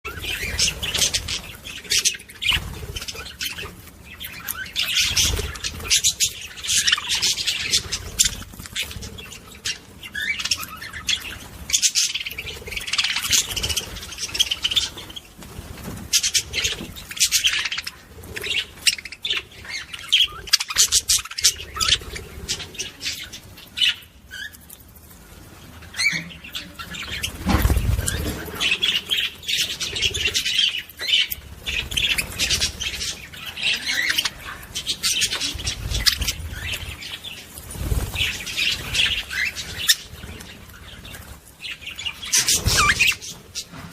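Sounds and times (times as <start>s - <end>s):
lovebirds chirping and squawking: 0.0s - 43.9s.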